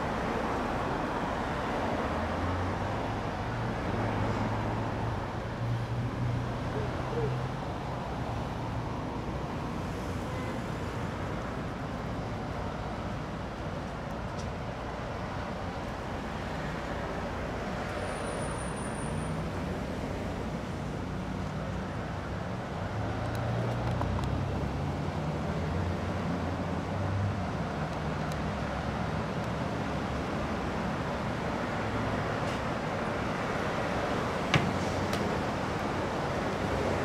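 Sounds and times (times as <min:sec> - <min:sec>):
road traffic rumble and hiss: 0:00.0 - 0:37.0.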